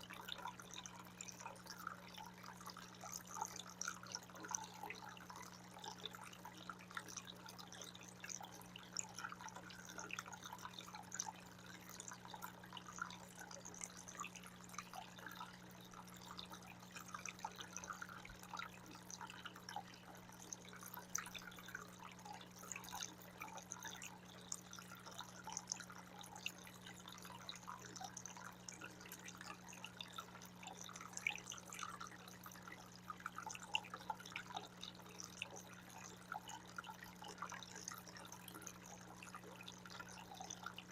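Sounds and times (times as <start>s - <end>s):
water fountain trickling: 0.0s - 40.9s.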